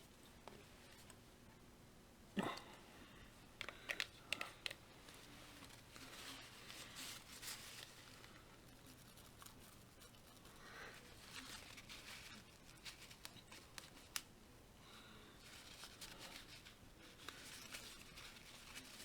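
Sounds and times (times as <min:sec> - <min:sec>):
soft rustles: 0:00.0 - 0:01.3, 0:03.5 - 0:14.3, 0:15.0 - 0:19.0.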